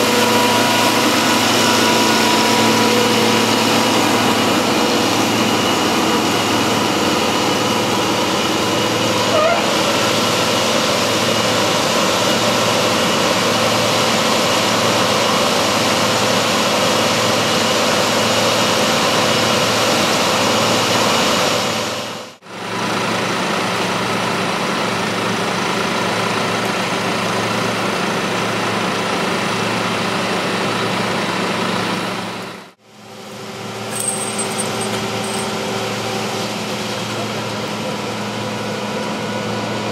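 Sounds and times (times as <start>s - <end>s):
farm machinery drone: 0.0s - 39.9s.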